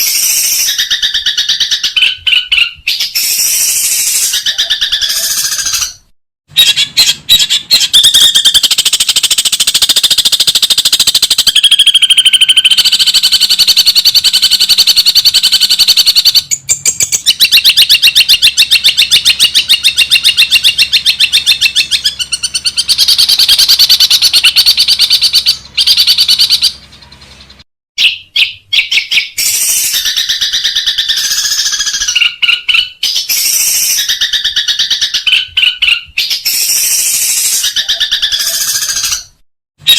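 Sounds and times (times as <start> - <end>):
shrike harsh chattering song: 0.0 - 39.9.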